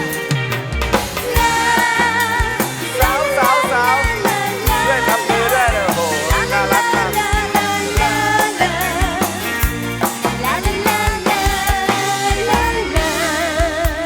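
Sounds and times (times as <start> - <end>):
drum kit and bass beat: 1.0 - 14.0.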